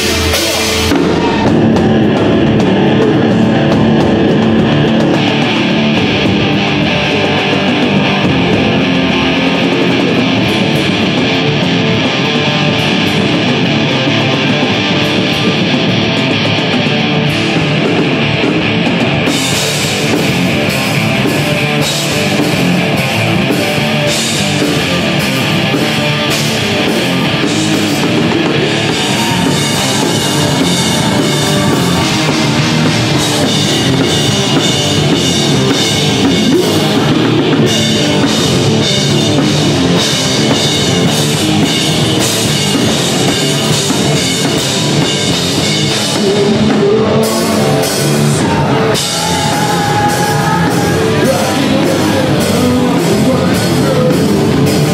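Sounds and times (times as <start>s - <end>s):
distorted electric guitars: 0.0s - 54.9s
drum kit: 0.0s - 54.9s.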